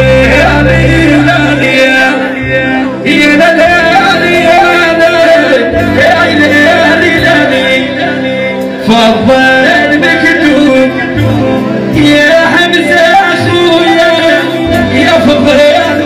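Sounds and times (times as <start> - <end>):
drums: 0.0 - 16.0
keyboard synthesizer: 0.0 - 16.0
man singing into a microphone: 0.0 - 16.0.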